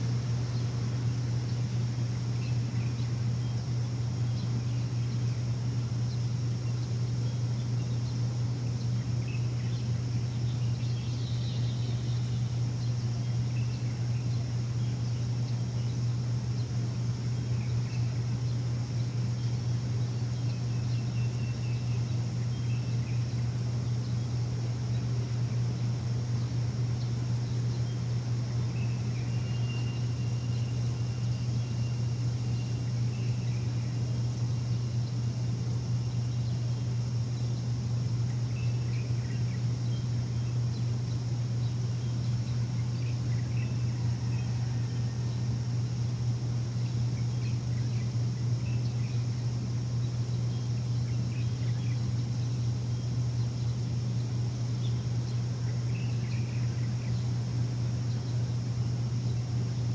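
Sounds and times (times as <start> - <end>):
birds chirping: 0.0 - 59.9
low machine hum: 0.0 - 59.9.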